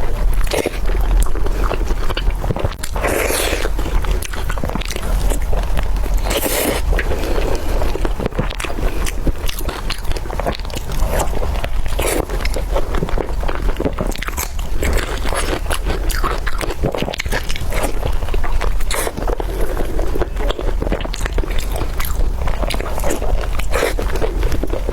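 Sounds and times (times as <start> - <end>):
person biting and chewing food: 0.0 - 24.9.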